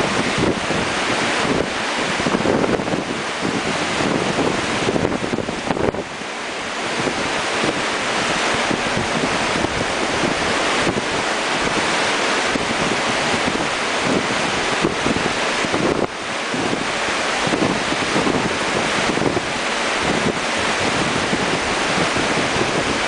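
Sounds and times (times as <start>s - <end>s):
heavy rain hissing on water: 0.0s - 23.0s
wind gusting across microphone: 0.0s - 23.0s.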